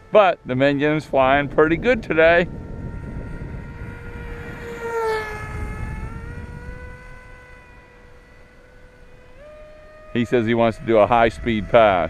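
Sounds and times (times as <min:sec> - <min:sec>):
model plane motor whining: 0:00.0 - 0:12.0
wind rumbling on microphone: 0:00.0 - 0:12.0.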